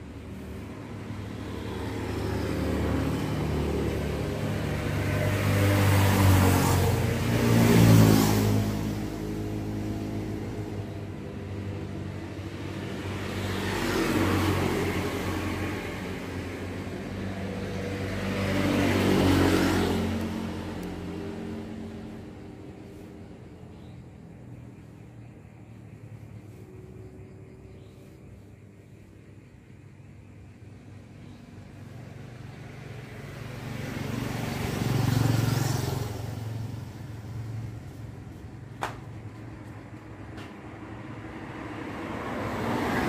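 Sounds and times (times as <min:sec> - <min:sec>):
motor vehicles passing by: 0:00.0 - 0:43.0.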